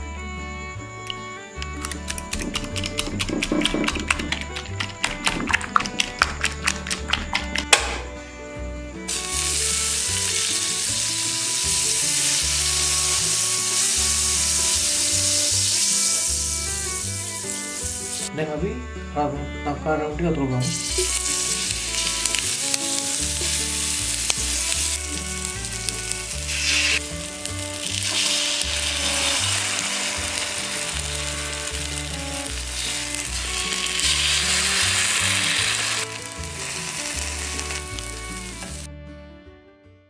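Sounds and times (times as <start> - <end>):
background music with bass line: 0.0 - 40.0
oil sizzling in a pan: 1.1 - 7.4, 9.1 - 18.3, 20.7 - 38.9.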